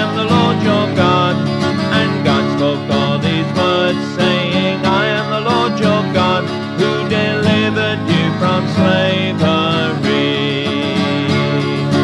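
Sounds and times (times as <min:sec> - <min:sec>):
country song with plucked guitar: 0:00.0 - 0:12.0.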